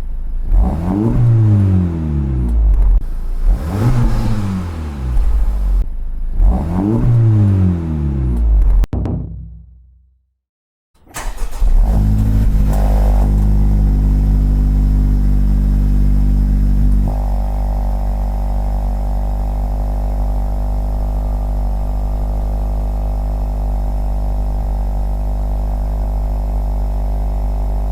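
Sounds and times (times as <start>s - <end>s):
car engine starting and idling: 0.0s - 8.9s, 11.0s - 27.9s.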